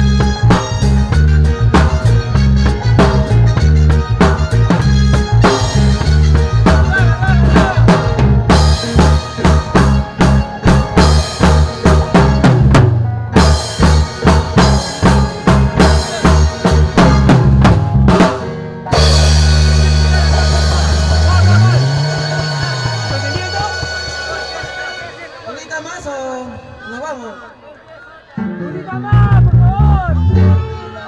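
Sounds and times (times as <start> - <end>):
drum beat with heavy bass: 0.0 - 26.0.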